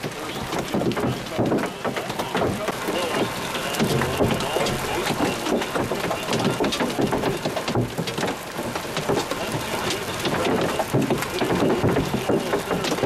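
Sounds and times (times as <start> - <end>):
hailstones pelting gravel: 0.0 - 13.0.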